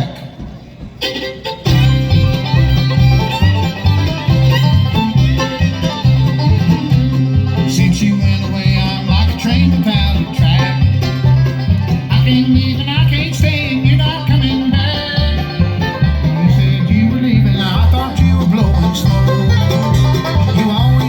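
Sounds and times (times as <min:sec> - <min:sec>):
live bluegrass band: 0:00.0 - 0:21.0
sliding melody line: 0:01.0 - 0:21.0.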